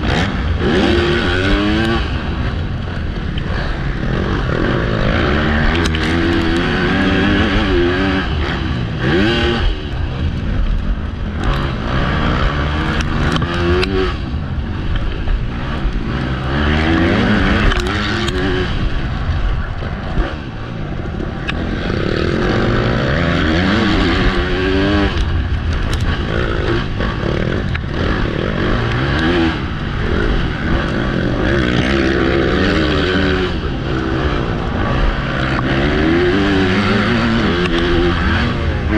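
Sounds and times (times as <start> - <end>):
motocross bike engine revving: 0.0 - 38.9
wind rumble on microphone: 0.0 - 38.9.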